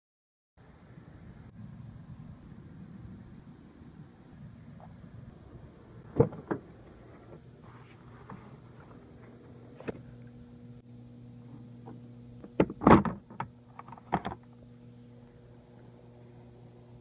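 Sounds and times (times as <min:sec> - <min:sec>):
steady low hum: 0:00.6 - 0:17.0.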